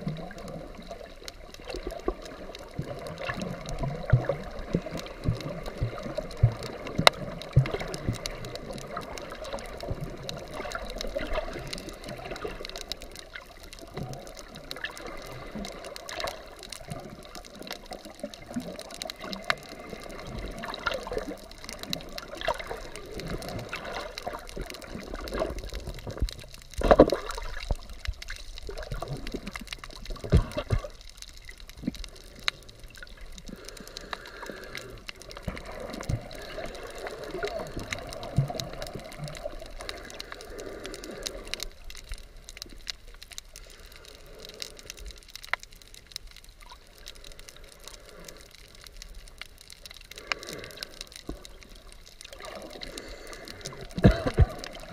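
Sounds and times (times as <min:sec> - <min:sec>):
muffled underwater water: 0:00.0 - 0:54.9
small underwater clicks: 0:00.0 - 0:54.9.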